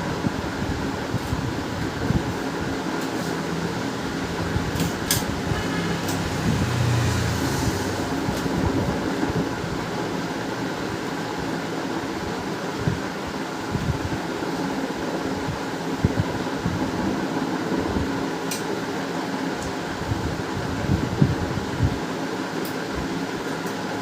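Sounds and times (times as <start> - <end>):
fan-like hum: 0.0 - 24.0.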